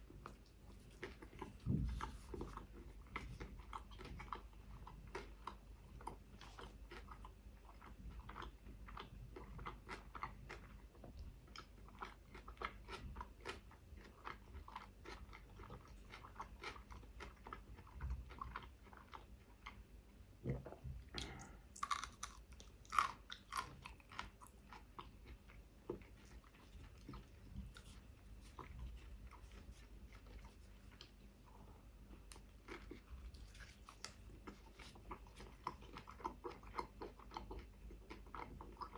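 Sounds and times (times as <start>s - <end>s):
close chewing with crunchy clicks: 0.0s - 38.9s.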